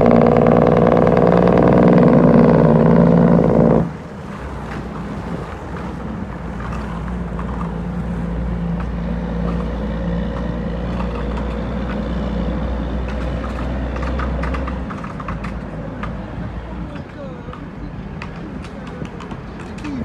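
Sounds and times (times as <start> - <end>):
vehicle engine drone: 0.0 - 17.1
road noise: 0.0 - 20.0.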